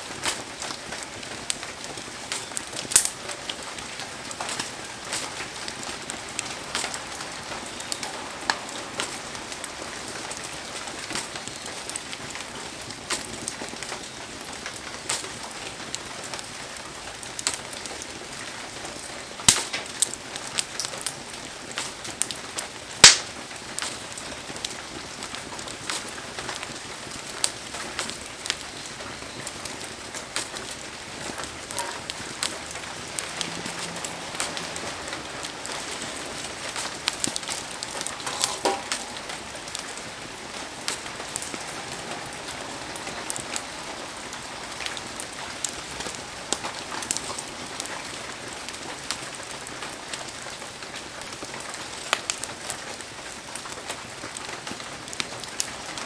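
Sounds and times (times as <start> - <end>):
heavy rain hissing: 0.0 - 17.3, 18.5 - 50.8
wood fire crackling and popping: 0.0 - 56.0.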